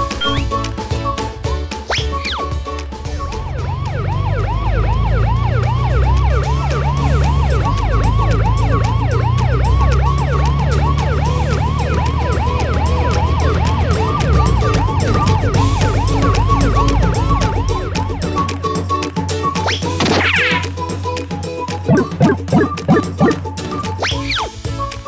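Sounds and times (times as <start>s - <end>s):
police siren yelp: 0.1s - 0.5s, 1.9s - 20.7s, 21.8s - 24.6s.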